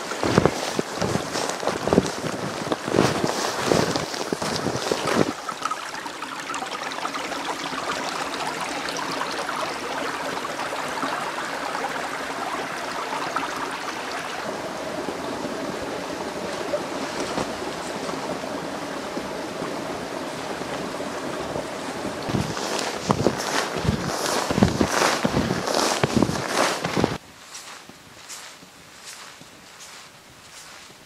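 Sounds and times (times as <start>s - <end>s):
stream babbling: 0.0s - 27.2s.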